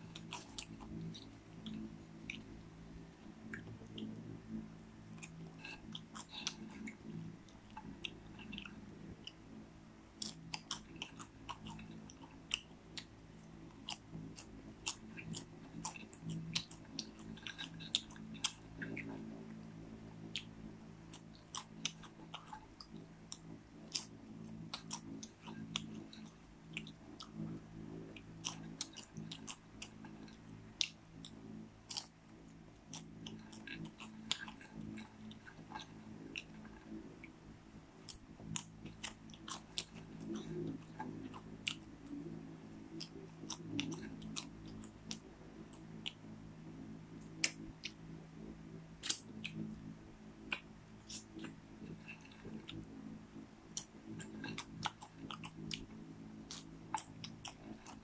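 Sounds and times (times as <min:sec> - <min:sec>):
popcorn being chewed: 0:00.0 - 0:58.0.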